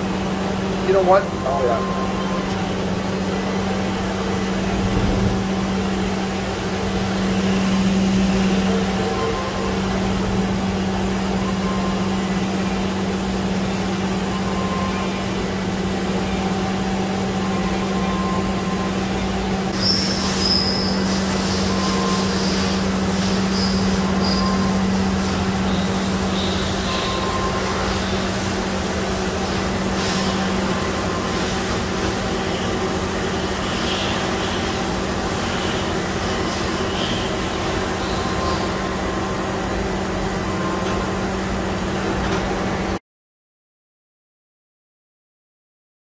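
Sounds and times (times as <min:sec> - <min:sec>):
higher machine whine: 0:00.0 - 0:43.0
machine spindle humming: 0:00.0 - 0:43.0.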